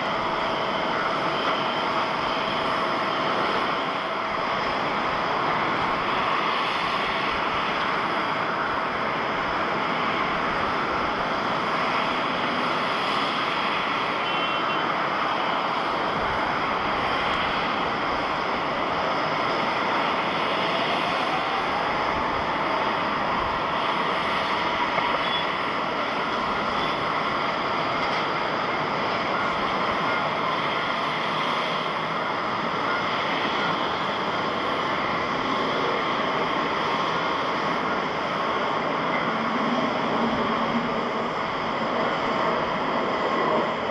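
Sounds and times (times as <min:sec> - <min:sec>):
jet engines running: 0:00.0 - 0:43.9.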